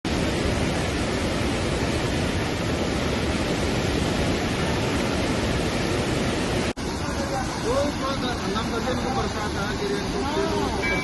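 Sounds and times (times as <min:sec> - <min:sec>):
river water rushing: 0:00.1 - 0:11.0.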